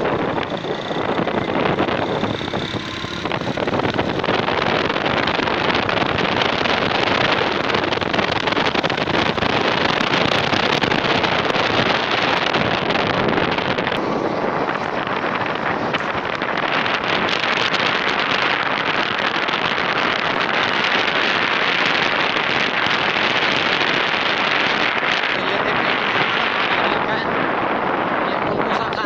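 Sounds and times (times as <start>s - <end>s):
motorcycle engine: 0.0s - 28.1s
road noise: 0.0s - 29.0s
wind buffeting microphone: 0.0s - 29.0s.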